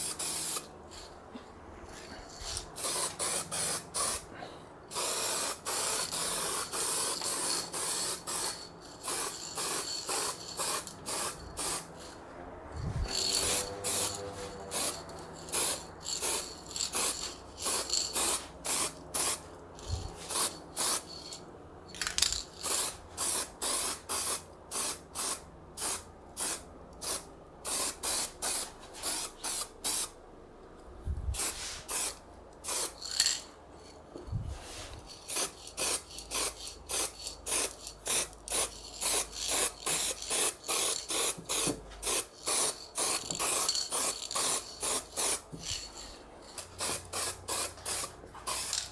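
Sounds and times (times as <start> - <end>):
spray paint can hissing bursts: 0.0 - 1.1, 2.3 - 4.3, 4.9 - 12.2, 13.0 - 21.4, 22.0 - 30.2, 31.4 - 33.5, 34.7 - 48.9.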